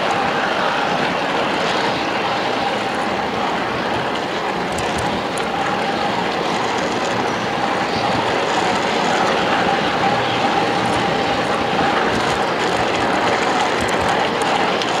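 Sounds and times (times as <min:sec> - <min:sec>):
small wheels rolling on rails: 0:00.0 - 0:15.0.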